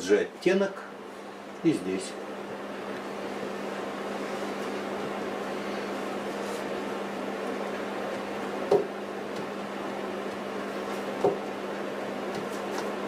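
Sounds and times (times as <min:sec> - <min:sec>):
room hum and hiss: 0:00.0 - 0:13.0.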